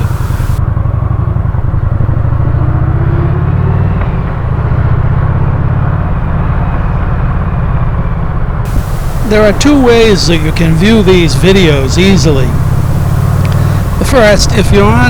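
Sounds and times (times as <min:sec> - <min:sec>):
motorcycle engine rumbling: 0:00.0 - 0:02.5, 0:05.3 - 0:15.0.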